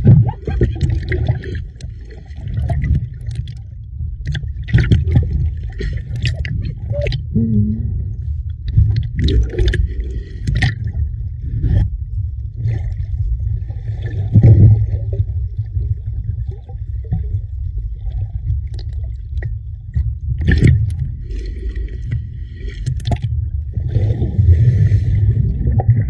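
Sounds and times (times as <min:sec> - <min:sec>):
water splashes: 0:00.0 - 0:07.6, 0:08.2 - 0:26.0
muffled sea water sloshing: 0:00.0 - 0:26.0.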